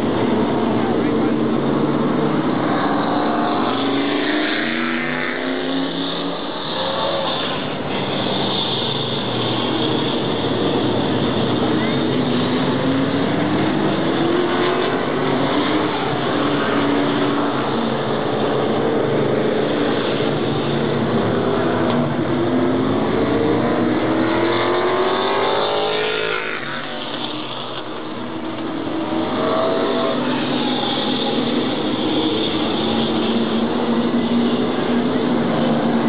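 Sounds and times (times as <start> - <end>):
race car engines: 0.0 - 36.0.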